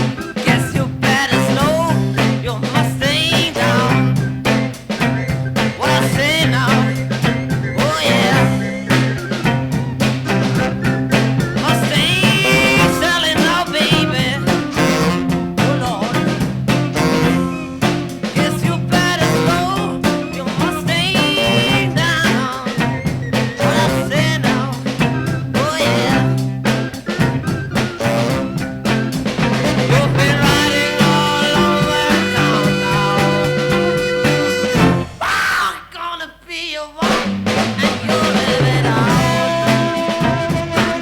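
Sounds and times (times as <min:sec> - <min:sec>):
beat band playing: 0:00.0 - 0:35.4, 0:37.0 - 0:41.0.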